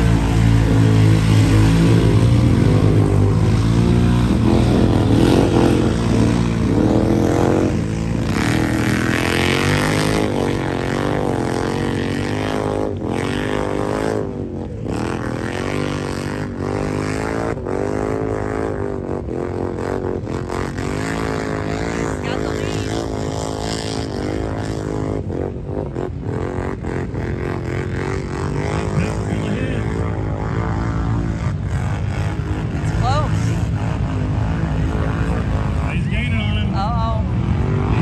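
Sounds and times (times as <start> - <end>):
atv engines revving: 0.0 - 38.0.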